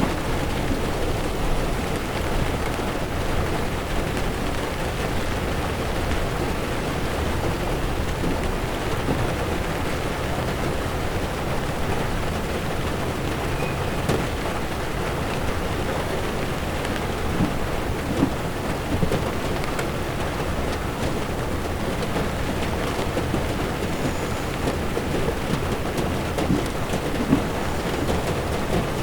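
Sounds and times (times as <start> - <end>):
rain beating on car windshield: 0.0 - 29.0
tyres rumbling on wet road: 0.0 - 29.0.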